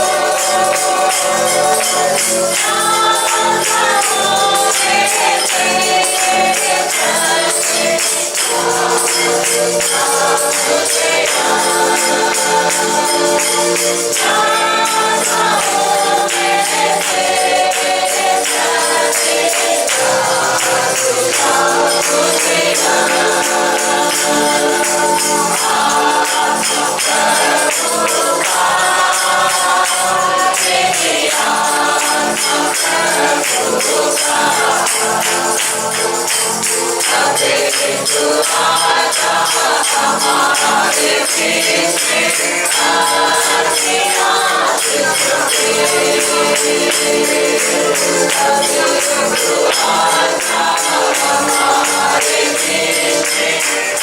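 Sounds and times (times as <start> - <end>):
group singing worship song: 0.0 - 54.0
tambourine jingling: 0.0 - 54.0.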